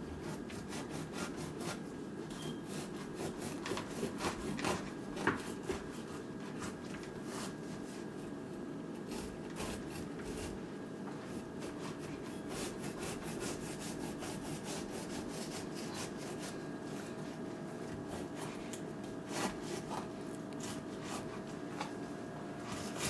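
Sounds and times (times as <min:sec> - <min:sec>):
steady low hum: 0:00.0 - 0:23.0
knife scraping fruit: 0:00.2 - 0:08.1, 0:09.0 - 0:10.6, 0:11.2 - 0:17.2, 0:18.1 - 0:21.9, 0:22.6 - 0:23.0.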